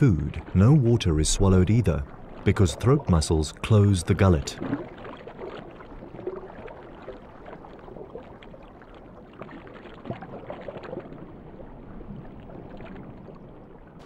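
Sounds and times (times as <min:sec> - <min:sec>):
faint water gurgles: 0:00.0 - 0:14.0
underwater wash of water: 0:00.0 - 0:14.0.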